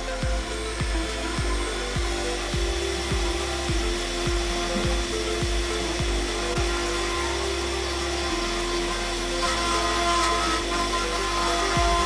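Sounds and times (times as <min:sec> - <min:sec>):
electronic music with kick drum: 0:00.0 - 0:12.0
router spindle milling wood: 0:00.0 - 0:12.0.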